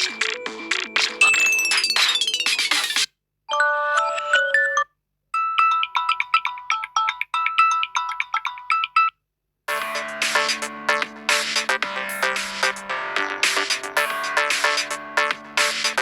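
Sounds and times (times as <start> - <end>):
phone ringtone melody: 1.2 - 2.9, 3.5 - 16.0.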